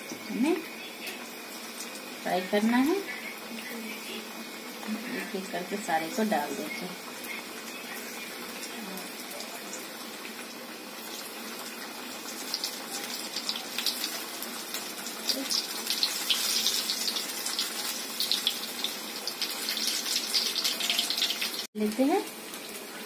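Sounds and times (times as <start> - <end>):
food sizzling and spattering in oil: 0.0 - 23.0.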